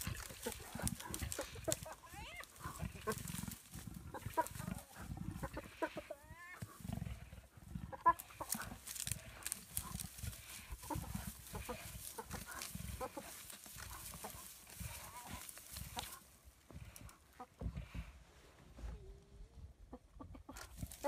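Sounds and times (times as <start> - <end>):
animals growling: 0.0 - 18.2, 20.5 - 21.0.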